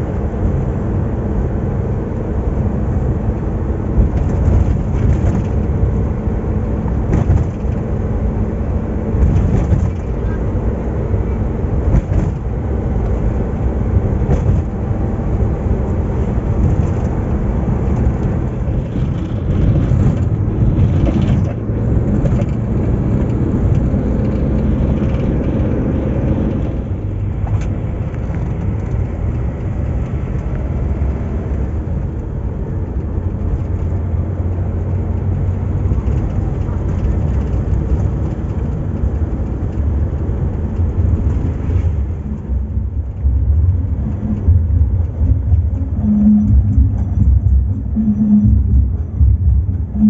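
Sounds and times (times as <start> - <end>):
car engine: 0.0 - 50.0
road noise: 0.0 - 50.0.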